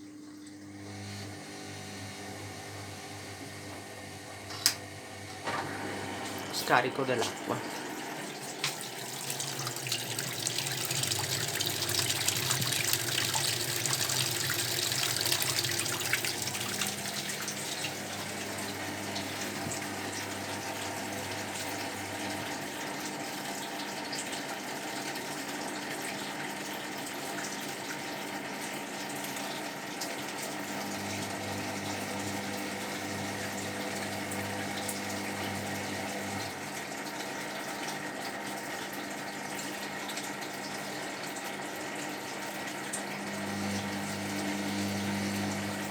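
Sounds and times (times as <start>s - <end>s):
washing machine drain pump hum: 0.0s - 45.9s.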